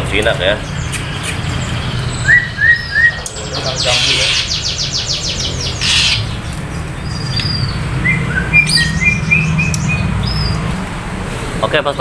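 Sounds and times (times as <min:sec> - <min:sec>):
starling harsh chatter: 0:00.0 - 0:10.7.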